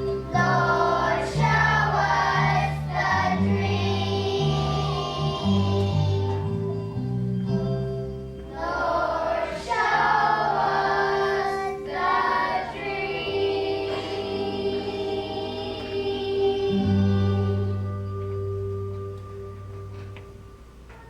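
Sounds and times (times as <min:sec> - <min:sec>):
children's choir singing: 0:00.0 - 0:07.0, 0:08.4 - 0:18.7
instrumental accompaniment: 0:00.0 - 0:21.0.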